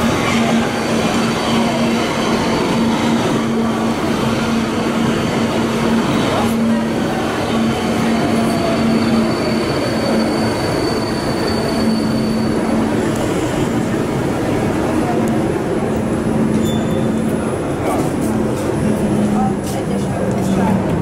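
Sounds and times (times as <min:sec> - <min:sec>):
metro train rumbling to a stop: 0:00.0 - 0:21.0.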